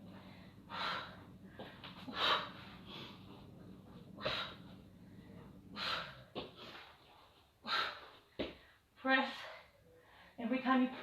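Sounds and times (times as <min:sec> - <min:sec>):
woman breathing hard: 0:00.0 - 0:07.0, 0:07.6 - 0:10.4.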